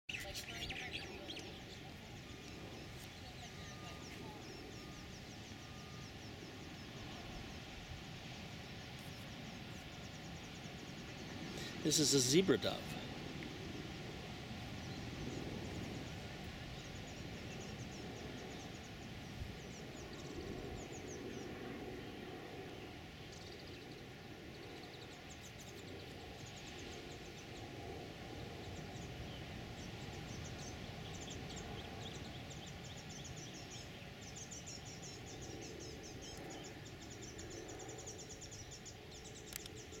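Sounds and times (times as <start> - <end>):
background hiss and hum: 0.1 - 40.0.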